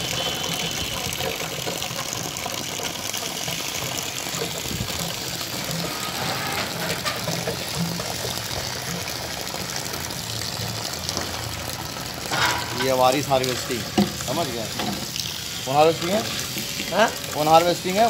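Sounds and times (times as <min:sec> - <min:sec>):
water pouring from a jerrycan: 0:00.0 - 0:18.0.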